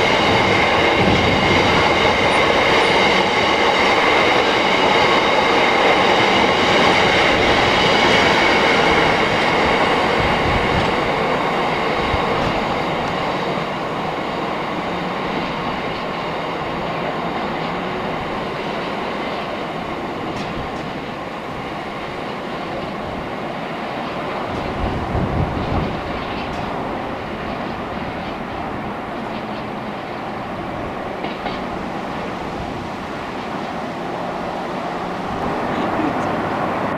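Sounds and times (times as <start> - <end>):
high ringing of rails: 0.0 - 36.9
train rumbling on rails: 0.0 - 36.9.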